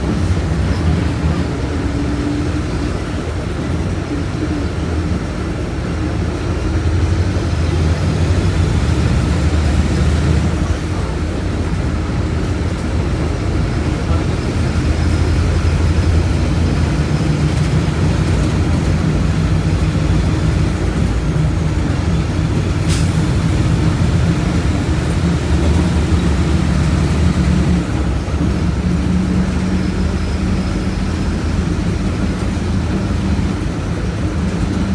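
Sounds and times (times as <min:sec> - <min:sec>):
bus diesel engine running: 0:00.0 - 0:34.9.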